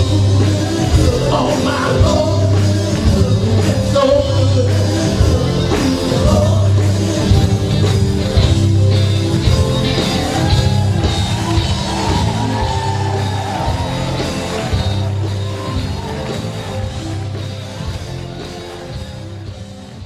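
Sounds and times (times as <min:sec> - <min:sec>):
live gospel band music: 0:00.0 - 0:20.0.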